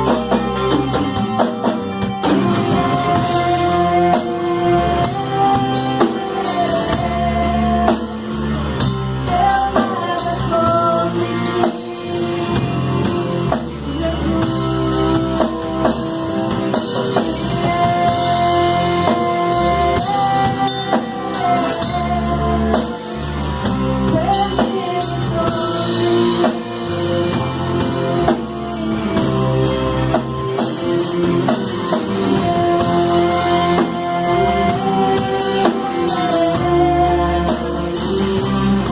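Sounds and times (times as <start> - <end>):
drum kit: 0.0 - 38.9
guitars playing: 0.0 - 38.9.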